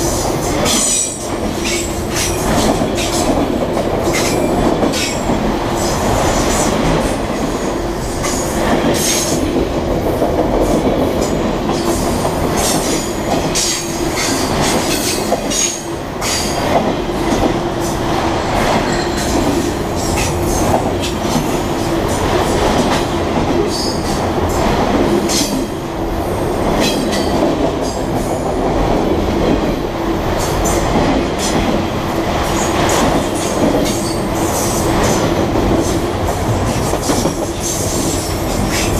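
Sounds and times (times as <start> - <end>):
train cars clanking: 0.0 - 38.9
train wheels rumbling on rail: 0.0 - 38.9
clickety-clack of wheels: 0.2 - 17.6, 18.6 - 25.7, 30.4 - 38.9.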